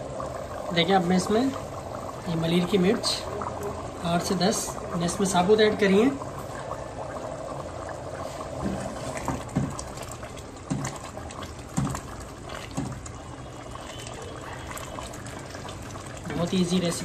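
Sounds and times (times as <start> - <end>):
curry bubbling: 0.0 - 17.0.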